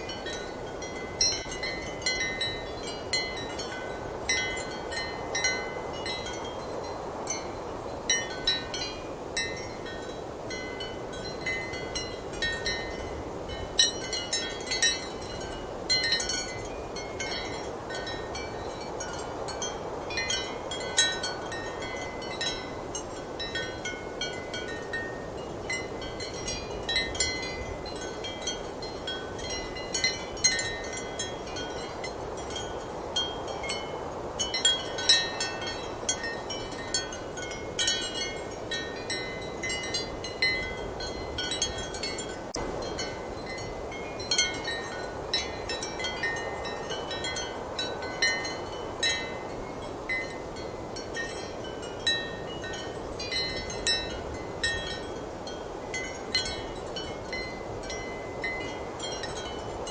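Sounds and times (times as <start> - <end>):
ceramic wind chimes clinking: 0.0 - 59.9.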